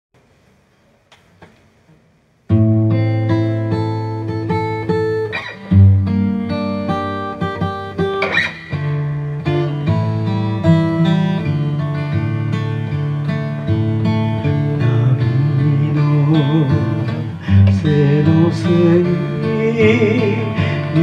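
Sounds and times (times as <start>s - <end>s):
acoustic guitar playing: 2.5s - 21.0s.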